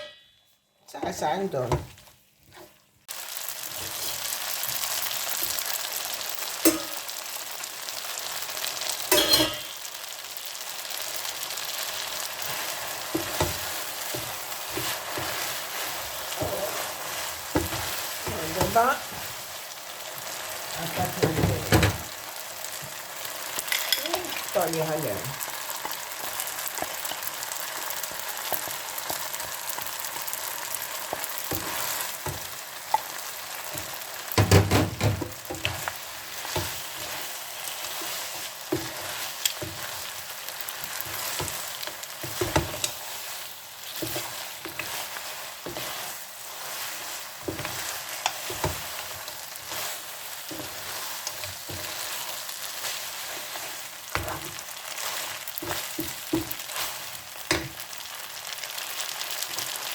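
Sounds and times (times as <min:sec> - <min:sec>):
sauce sizzling in a pan: 0:00.0 - 0:59.9.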